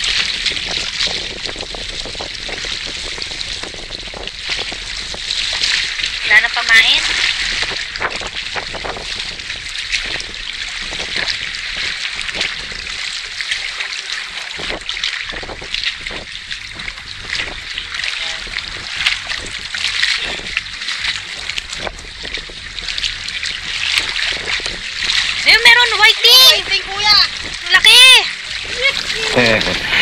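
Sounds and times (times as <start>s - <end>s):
water lapping and splashing: 0.0s - 30.0s.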